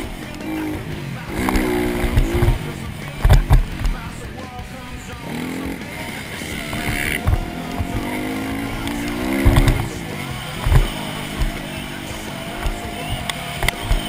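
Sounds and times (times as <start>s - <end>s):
dirt bike engine revving: 0.0s - 14.0s
low thuds from bumps: 0.0s - 14.0s.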